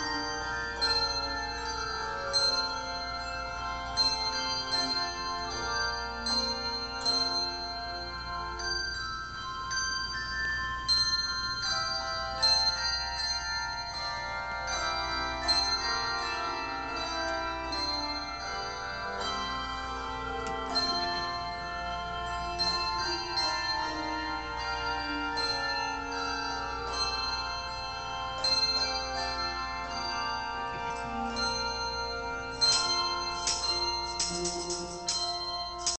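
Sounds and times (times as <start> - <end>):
handbell choir playing: 0.0 - 36.0.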